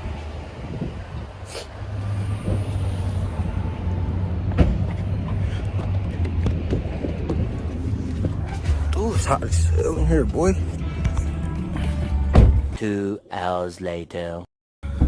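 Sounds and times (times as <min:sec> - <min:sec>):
car engine rumbling: 0:00.0 - 0:12.8.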